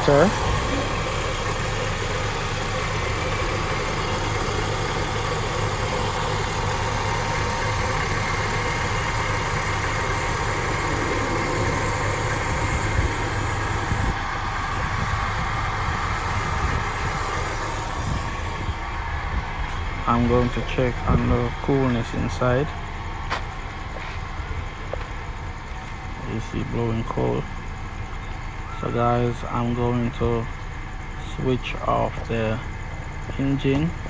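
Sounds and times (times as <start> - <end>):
car engine idling: 0.0 - 34.0
noisy compressor bearings: 0.0 - 34.0.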